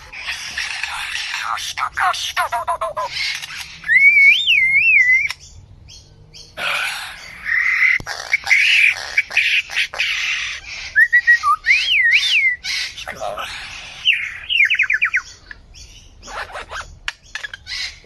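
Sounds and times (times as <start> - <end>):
bird calling: 0.0 - 18.0.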